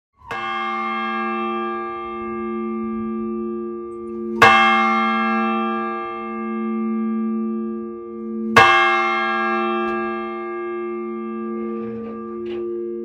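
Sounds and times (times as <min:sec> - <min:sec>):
church bell ringing: 0:00.2 - 0:13.0.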